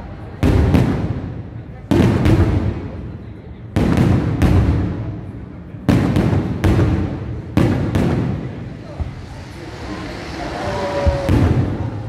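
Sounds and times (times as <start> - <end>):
fireworks booming: 0.2 - 12.0.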